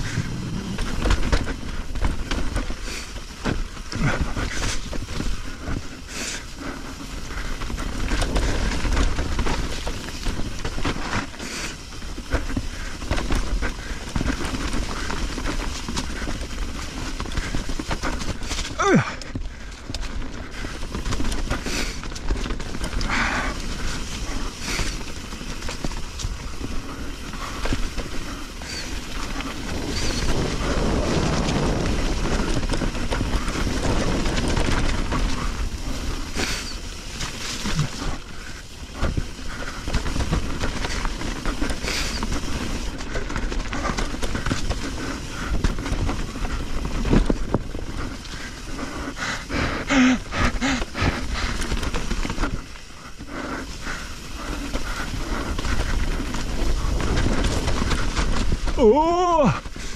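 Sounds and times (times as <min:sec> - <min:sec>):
bike clattering over bumps: 0:00.0 - 0:59.9
bike tyres on dirt: 0:00.0 - 0:59.9
wind rumble on microphone: 0:00.0 - 0:59.9.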